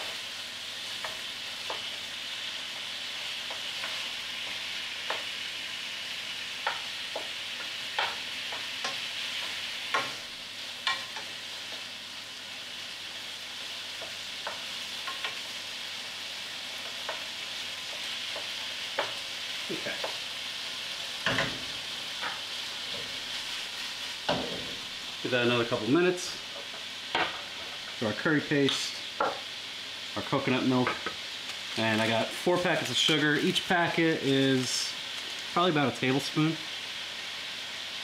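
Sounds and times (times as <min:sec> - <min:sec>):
food sizzling in a skillet: 0:00.0 - 0:38.0.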